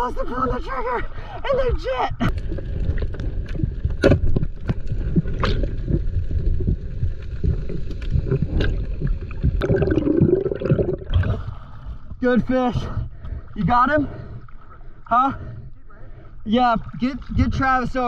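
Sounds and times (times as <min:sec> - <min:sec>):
underwater rumble and gurgle: 0:01.0 - 0:18.0.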